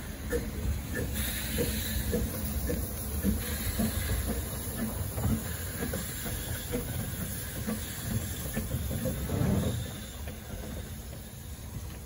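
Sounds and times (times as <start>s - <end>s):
train rumbling with knocks and clanks: 0.0s - 12.0s.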